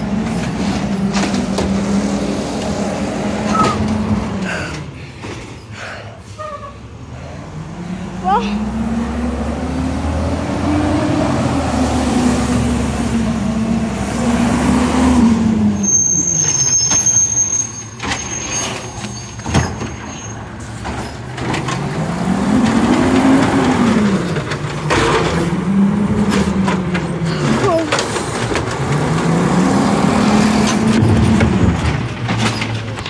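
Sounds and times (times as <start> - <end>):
garbage truck engine revving: 0.0 - 4.7, 7.4 - 17.2, 20.4 - 33.0.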